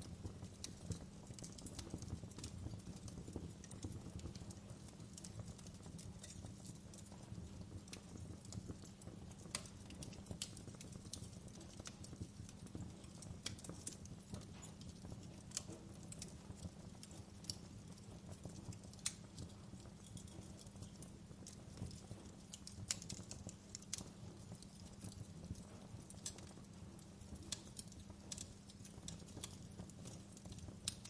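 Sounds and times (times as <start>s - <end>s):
low rumble of flames: 0.0s - 31.0s
wood fire crackling and popping: 0.0s - 31.0s.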